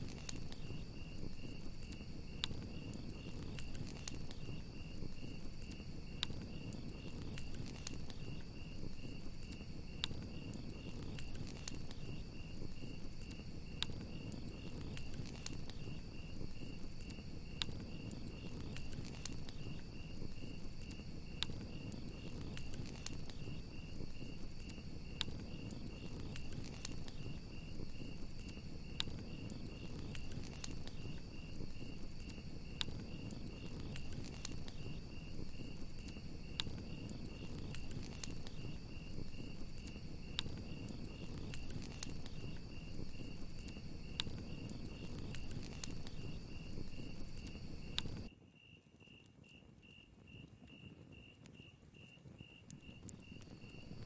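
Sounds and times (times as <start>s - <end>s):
campfire crackling: 0.0s - 48.4s, 49.3s - 54.0s
crickets chirping: 0.0s - 54.0s.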